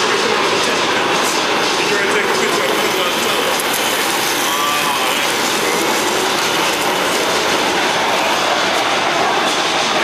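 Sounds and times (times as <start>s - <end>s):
model train wheels rumbling on rail: 0.0s - 10.0s.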